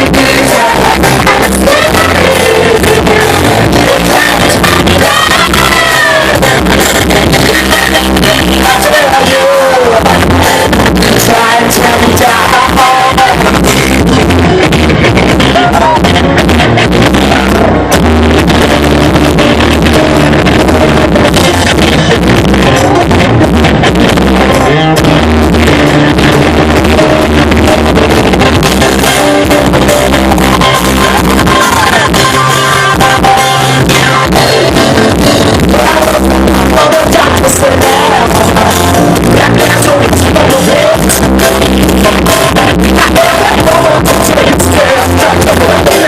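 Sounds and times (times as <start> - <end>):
distorted live rock band: 0.0 - 46.0.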